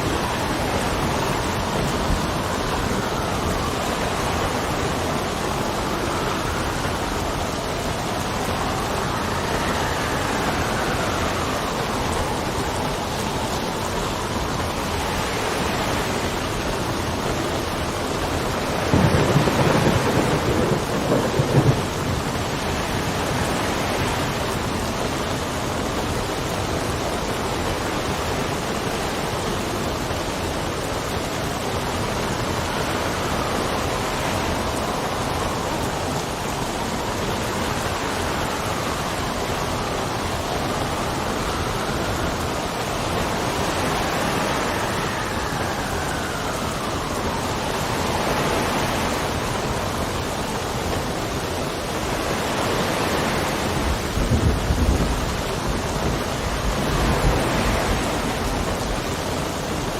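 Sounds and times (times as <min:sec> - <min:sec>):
thunder rumbling: 0:00.0 - 0:29.4, 0:30.3 - 0:59.9
heavy rain: 0:00.0 - 0:59.9
wind gusting and whistling: 0:00.0 - 0:59.9.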